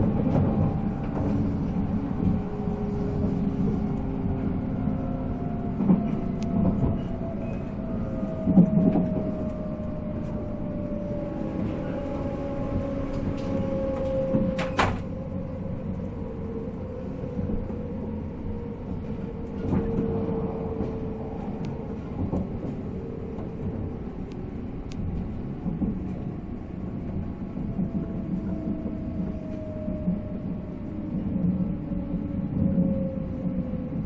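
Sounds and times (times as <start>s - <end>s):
wheel and track rumble: 0.0s - 34.0s.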